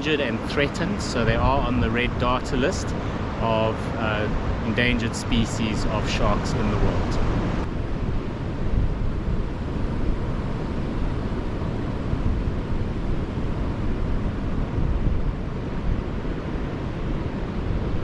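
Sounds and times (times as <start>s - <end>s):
surf washing on a beach: 0.0s - 18.0s
wind buffeting the microphone: 0.0s - 18.0s.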